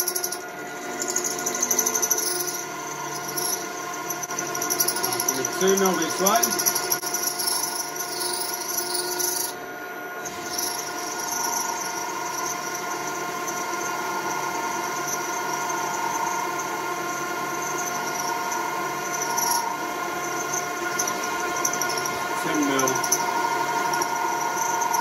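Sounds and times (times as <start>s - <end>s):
metal cutting noise: 0.0s - 9.6s, 10.2s - 25.0s
milling machine whine: 0.0s - 25.0s.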